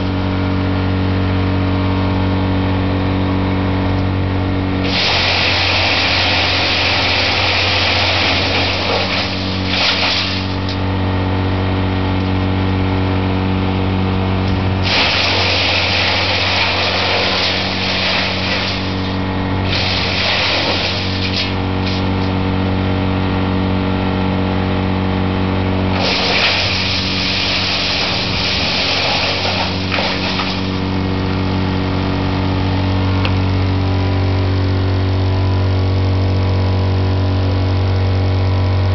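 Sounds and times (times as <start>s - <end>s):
wood chipper engine running: 0.0s - 38.9s
wood chipper grinding: 0.0s - 38.9s.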